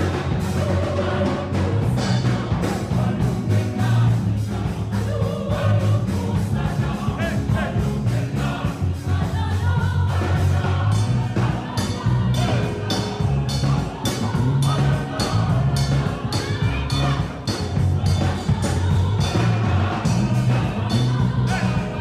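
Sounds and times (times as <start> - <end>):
gospel choir singing: 0.0 - 22.0
steady rhythmic beat: 0.0 - 22.0.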